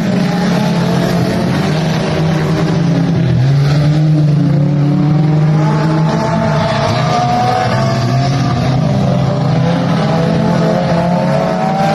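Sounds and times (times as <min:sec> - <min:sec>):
race car engine running hard: 0:00.0 - 0:11.9.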